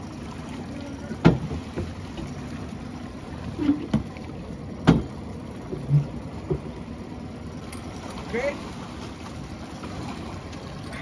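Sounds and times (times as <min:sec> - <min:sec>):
knocks and thumps in a dinghy: 0:00.0 - 0:11.0
water noise: 0:00.0 - 0:11.0.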